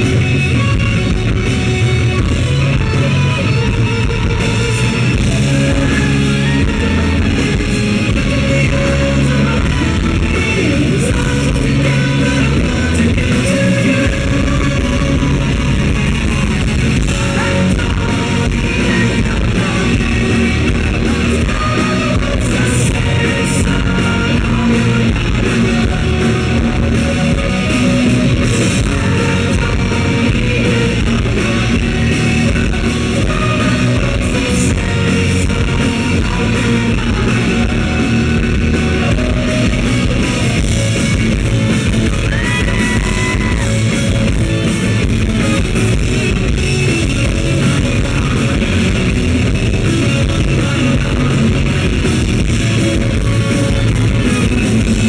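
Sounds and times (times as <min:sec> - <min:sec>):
loud electric guitars: 0:00.0 - 0:55.0
rock band playing live: 0:00.0 - 0:55.0.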